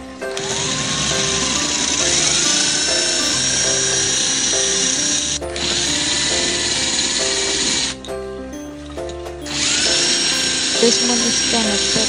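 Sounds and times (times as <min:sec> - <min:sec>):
background music: 0:00.0 - 0:12.0
drill grinding into ceramic: 0:00.3 - 0:08.1, 0:09.4 - 0:12.0.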